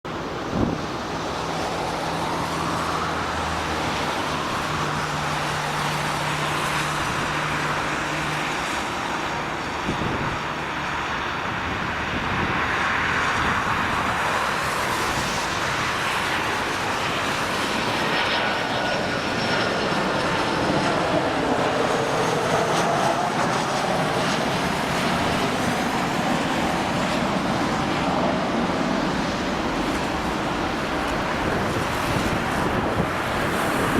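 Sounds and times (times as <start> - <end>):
jet engine rumble and whine: 0.1 - 33.9.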